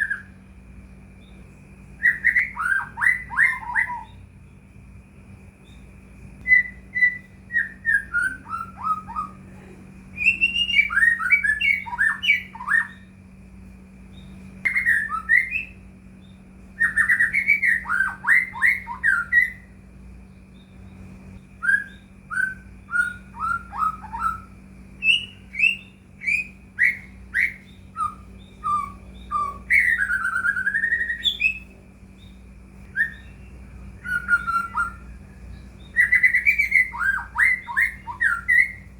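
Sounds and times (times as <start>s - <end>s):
bird singing whistled notes: 0.0s - 13.4s, 14.0s - 38.9s
low hum: 0.0s - 38.9s.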